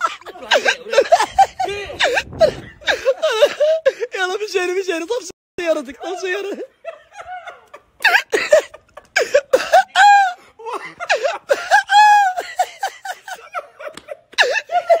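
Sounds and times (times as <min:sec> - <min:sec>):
man laughing hard: 0:00.0 - 0:04.1, 0:06.4 - 0:15.0.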